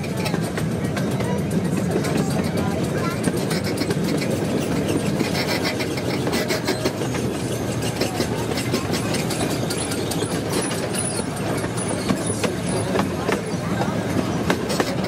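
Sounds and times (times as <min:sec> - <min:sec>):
track clicks and clacks: 0:00.0 - 0:15.0
train wheels rumbling on rails: 0:00.0 - 0:15.0.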